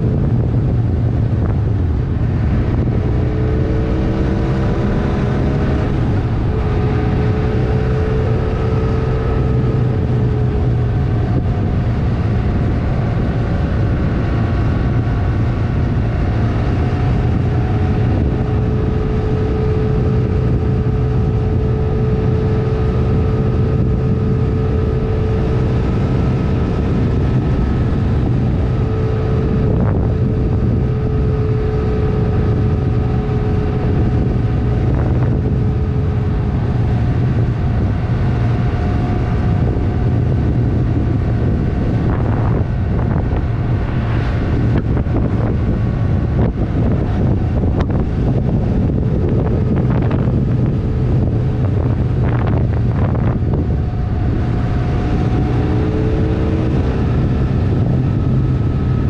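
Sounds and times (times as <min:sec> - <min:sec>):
motorcycle engine cruising: 0:00.0 - 0:59.0
wind noise on microphone: 0:00.0 - 0:59.0.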